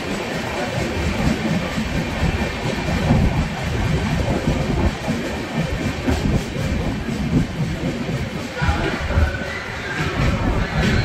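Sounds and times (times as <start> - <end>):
train wheels running on rails: 0.0 - 11.0.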